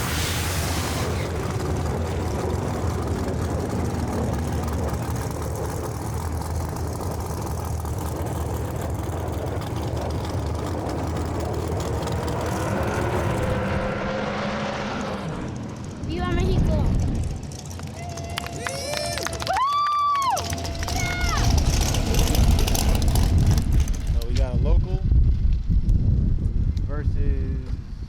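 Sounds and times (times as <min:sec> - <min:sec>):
race car engines running: 0:00.0 - 0:25.0.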